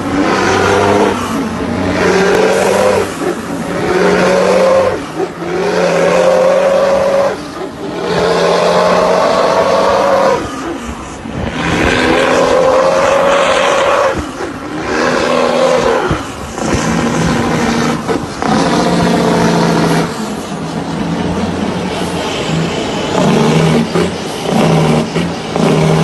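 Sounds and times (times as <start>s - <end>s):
truck diesel engine revving: 0.0s - 26.0s.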